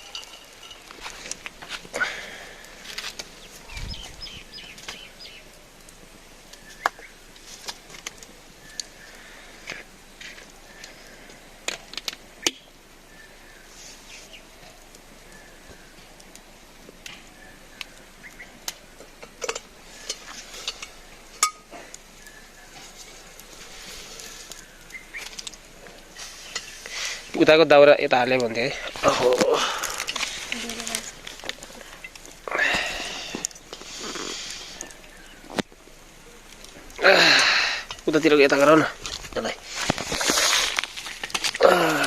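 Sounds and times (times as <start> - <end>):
birds chirping faintly: 0.0 - 42.0.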